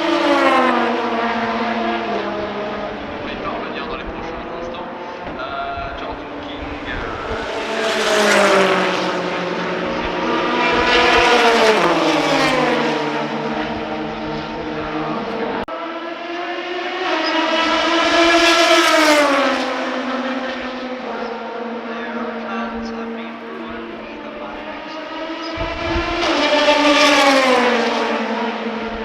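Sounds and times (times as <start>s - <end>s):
race cars passing: 0.0s - 29.0s.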